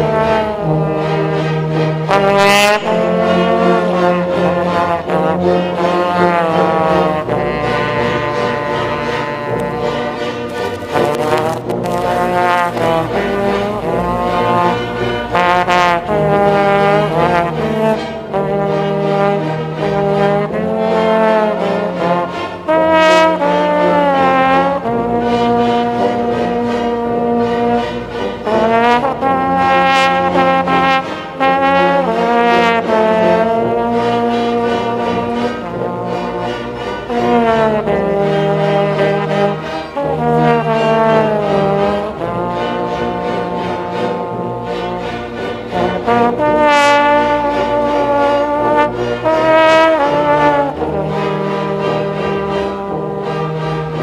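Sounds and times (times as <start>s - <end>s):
orchestra accompanying: 0.0s - 54.0s
trombone melody: 0.0s - 54.0s.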